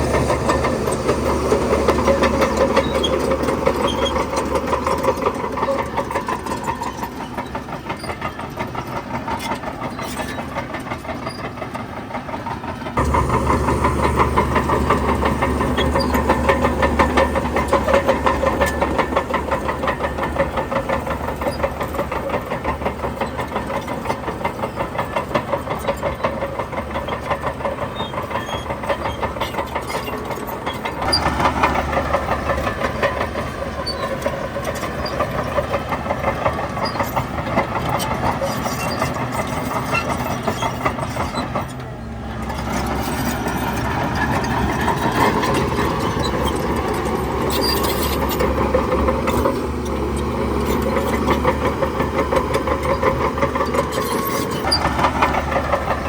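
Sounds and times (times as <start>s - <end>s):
diesel engines of heavy machinery: 0.0s - 56.0s.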